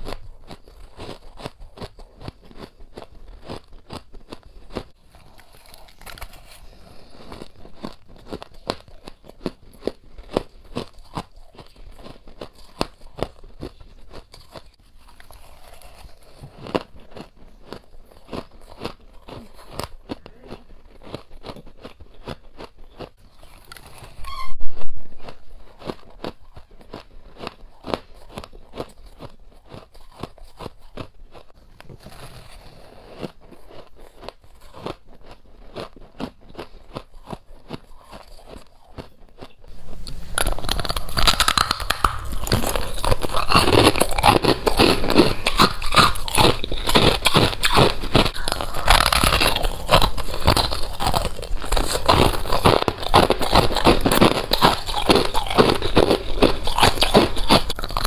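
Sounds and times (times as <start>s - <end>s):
frost being chewed: 0.0s - 58.0s.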